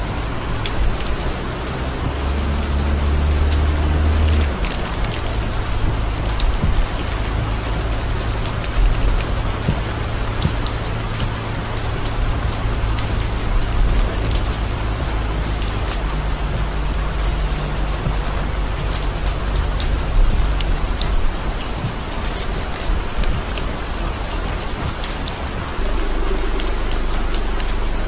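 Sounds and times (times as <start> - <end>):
car rumbling on wet road: 0.0 - 28.0
heavy rain on a car: 0.0 - 28.0.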